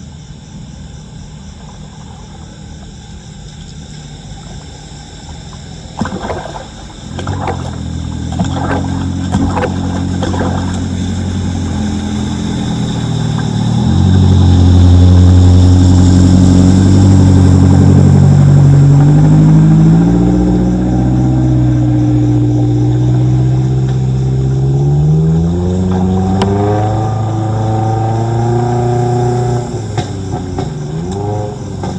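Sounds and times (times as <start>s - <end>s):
vehicle engine accelerating: 4.8s - 31.9s.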